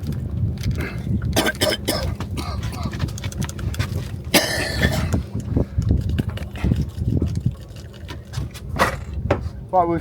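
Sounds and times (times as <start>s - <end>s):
water lapping against boat hull: 0.0s - 9.6s.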